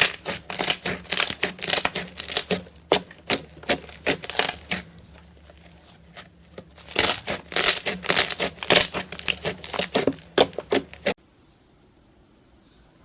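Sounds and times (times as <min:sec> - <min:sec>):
slime crackling and squishing: 0:00.0 - 0:11.2.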